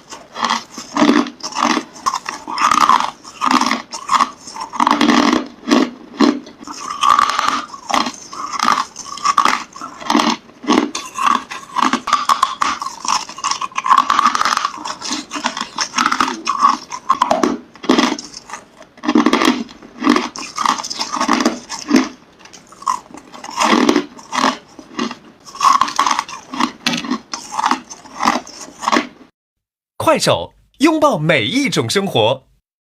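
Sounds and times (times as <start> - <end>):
crushed ice being chewed: 0.0 - 29.2.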